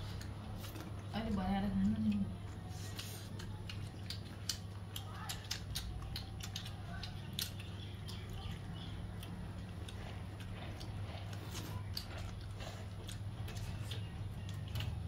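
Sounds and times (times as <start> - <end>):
steady low hum: 0.0 - 15.0
wet chewing mouth clicks: 1.8 - 15.0.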